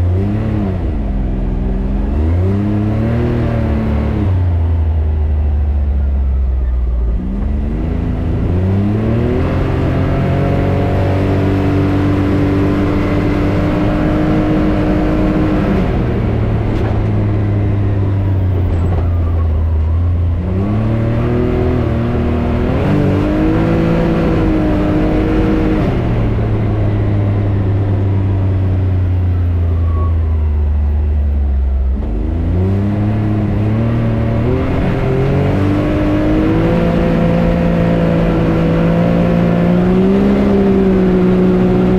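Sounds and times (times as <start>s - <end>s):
off-road vehicle engine accelerating: 0.0s - 41.9s.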